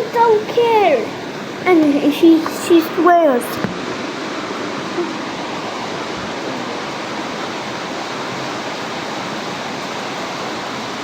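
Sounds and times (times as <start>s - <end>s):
heavy rain hiss: 0.0s - 11.0s.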